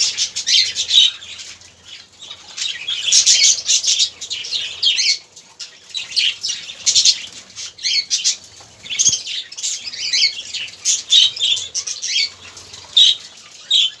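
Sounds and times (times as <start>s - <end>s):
budgerigars chattering and chirping: 0.0s - 14.0s.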